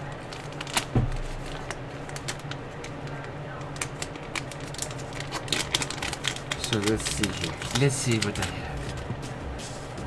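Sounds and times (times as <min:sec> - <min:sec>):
low steady hum: 0:00.0 - 0:10.0
plastic packaging rustling: 0:00.1 - 0:03.1, 0:03.7 - 0:09.0.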